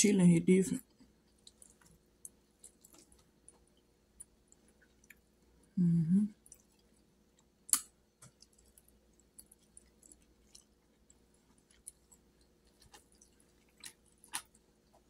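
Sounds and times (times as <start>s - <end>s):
person chewing wetly: 0.9s - 5.5s, 6.4s - 15.0s.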